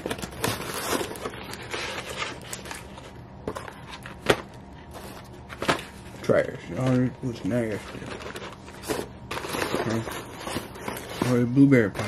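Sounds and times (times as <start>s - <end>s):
cardboard boxes rustling: 0.0s - 6.2s, 6.8s - 12.0s.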